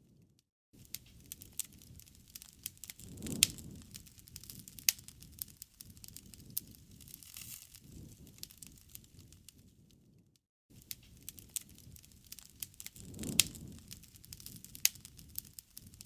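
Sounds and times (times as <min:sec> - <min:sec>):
wood fire crackling: 0:00.8 - 0:09.9, 0:10.8 - 0:16.0.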